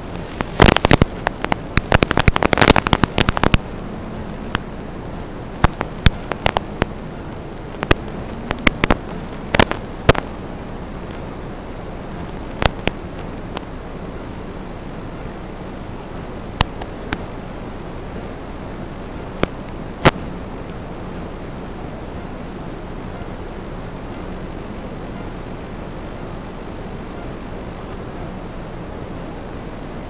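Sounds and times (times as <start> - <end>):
crackling clicks and pops: 0.0 - 30.0
static hiss: 0.0 - 30.0.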